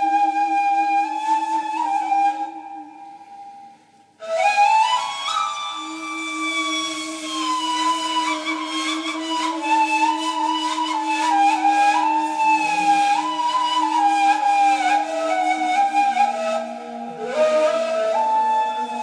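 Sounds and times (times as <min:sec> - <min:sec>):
flute low drone: 0:00.0 - 0:19.0
flute melody with glides: 0:00.0 - 0:19.0.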